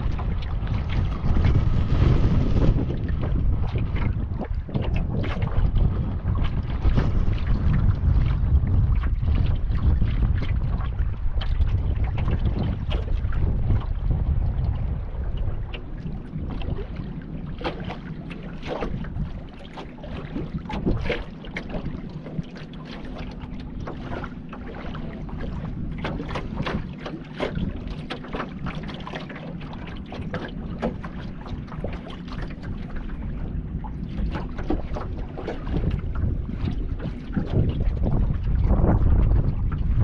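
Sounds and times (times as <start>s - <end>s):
water splashing against kayak: 0.0s - 40.0s
wind rumbling on microphone: 0.0s - 40.0s.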